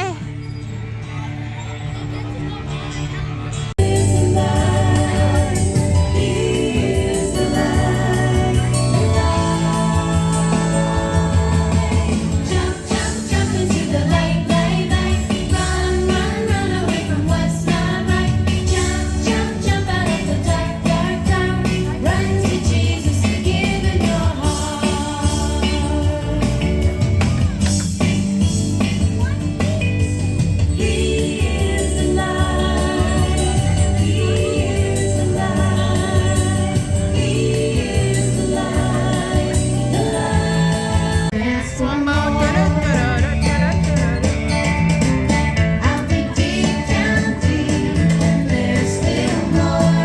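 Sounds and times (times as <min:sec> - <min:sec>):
choir singing over a beat: 0:03.8 - 0:28.5, 0:30.6 - 0:44.2, 0:45.5 - 0:50.0.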